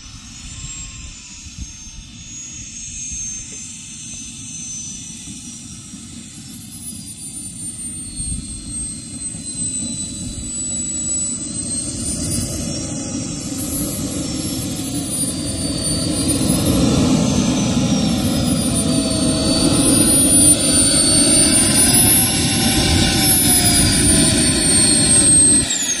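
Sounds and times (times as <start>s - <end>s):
jet turbine whine: 0.0s - 26.0s
rushing exhaust: 0.0s - 26.0s.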